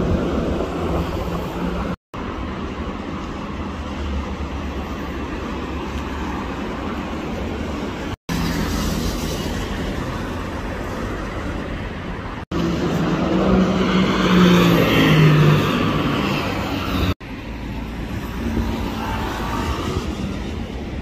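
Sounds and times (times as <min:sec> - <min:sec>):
traffic and tyre noise: 0:00.0 - 0:21.0.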